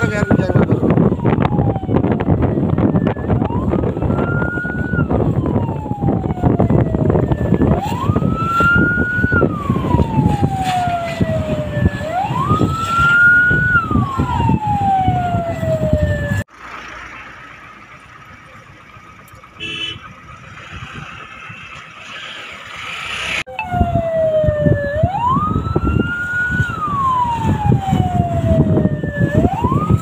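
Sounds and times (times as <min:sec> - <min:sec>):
emergency vehicle siren wailing: 0:00.0 - 0:30.0.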